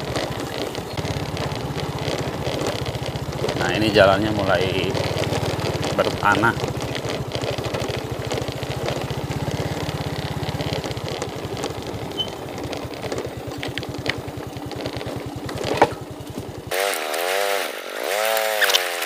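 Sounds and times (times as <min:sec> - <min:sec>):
clicks and rattles: 0:00.0 - 0:16.6
motorcycle engine running: 0:00.0 - 0:19.0.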